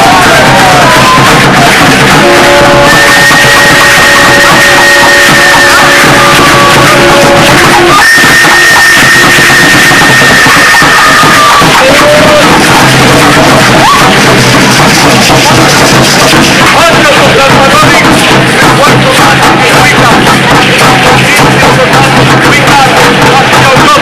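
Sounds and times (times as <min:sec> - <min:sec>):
music with long held notes: 0:00.0 - 0:24.0.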